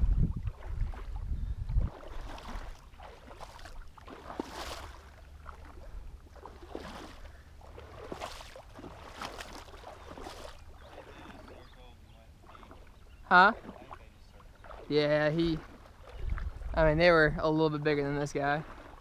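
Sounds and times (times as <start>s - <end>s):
wind rumble on microphone: 0.0s - 11.7s, 14.2s - 19.0s
wading steps splashing in water: 0.0s - 19.0s.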